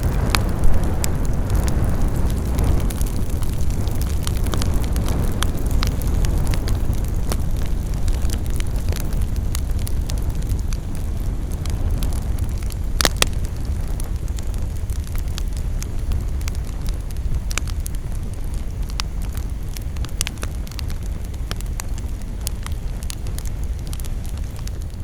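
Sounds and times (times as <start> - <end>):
campfire flames rumbling: 0.0 - 25.0
wood crackling and popping: 0.0 - 25.0.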